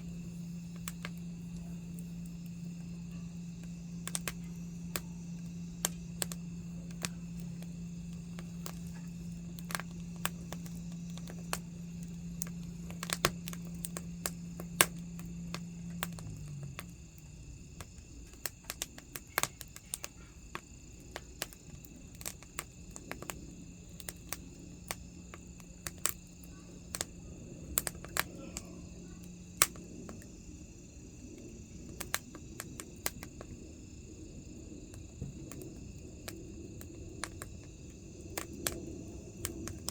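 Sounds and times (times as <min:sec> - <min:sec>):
steady low hum: 0:00.0 - 0:39.9
wood fire crackling and popping: 0:00.0 - 0:39.9.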